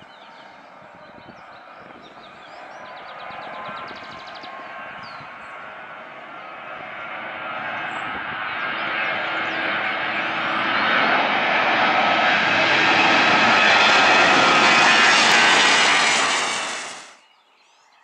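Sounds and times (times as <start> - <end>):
jet engines whining: 0.4 - 17.2.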